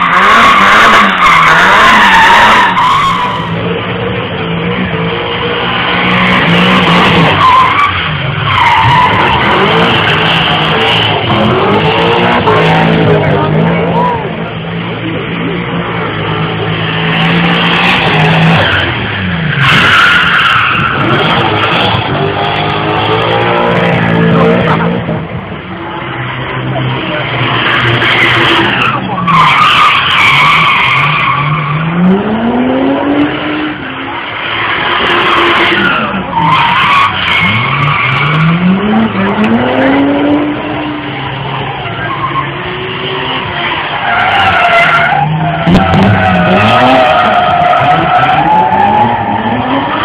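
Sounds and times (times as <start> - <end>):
tyres squealing on tarmac: 0.0 - 3.7, 5.8 - 14.5, 16.9 - 25.0, 27.2 - 32.1, 33.6 - 50.0
car engine revving: 0.0 - 50.0.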